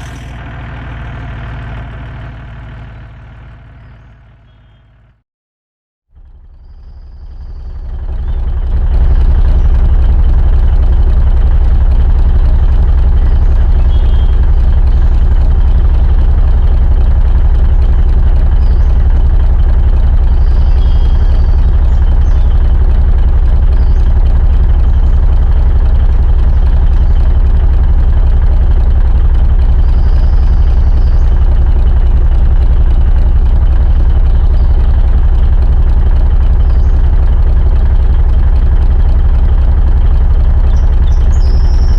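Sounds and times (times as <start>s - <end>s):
diesel truck engine idling: 0.0s - 5.2s, 6.2s - 41.9s.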